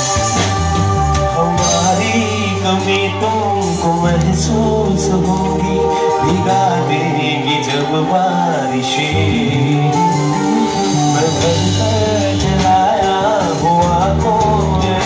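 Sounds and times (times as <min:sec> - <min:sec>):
bass notes: 0:00.0 - 0:15.0
live band playing: 0:00.0 - 0:15.0
melodic line bending in pitch: 0:00.0 - 0:15.0.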